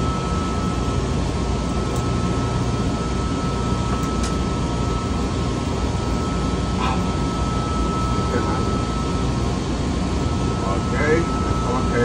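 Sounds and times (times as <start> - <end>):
high whine: 0.0 - 12.0
machinery drone: 0.0 - 12.0.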